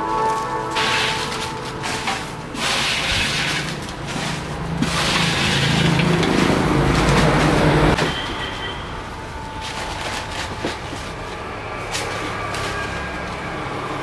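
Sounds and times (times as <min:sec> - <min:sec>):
chips crackling and rustling: 0:00.2 - 0:07.9, 0:09.5 - 0:13.8.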